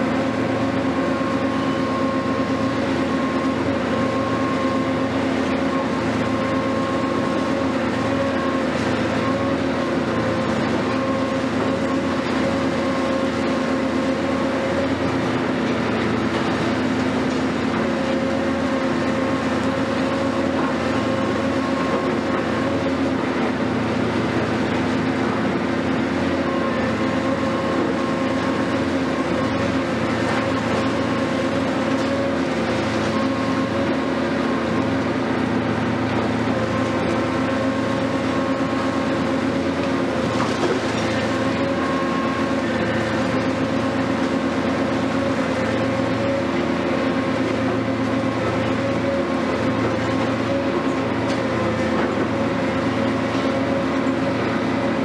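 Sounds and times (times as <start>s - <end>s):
excavator engine droning: 0.0s - 55.0s.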